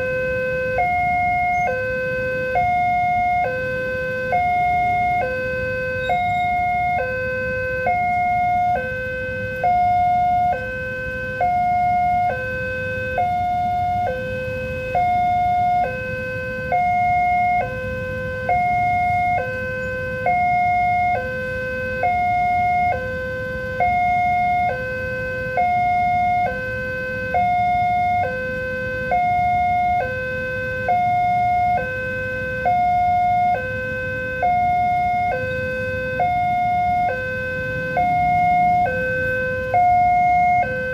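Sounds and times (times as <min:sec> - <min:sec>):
two-tone crossing alarm: 0:00.0 - 0:40.9.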